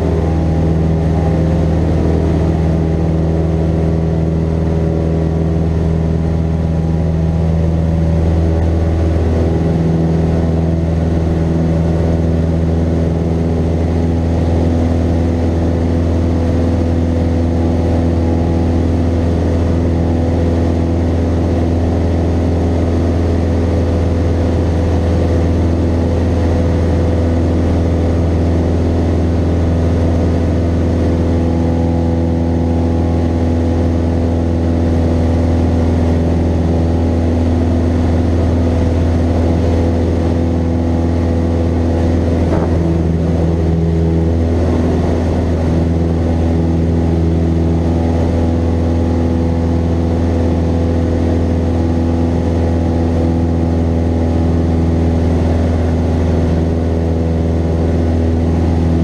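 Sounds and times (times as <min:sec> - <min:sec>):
aircraft engine droning in cabin: 0:00.0 - 0:59.0.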